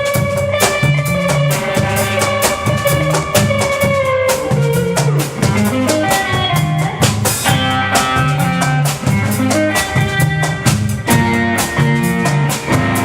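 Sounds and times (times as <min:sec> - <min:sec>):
drum kit beat: 0:00.0 - 0:13.0
repeating bass line: 0:00.0 - 0:13.0.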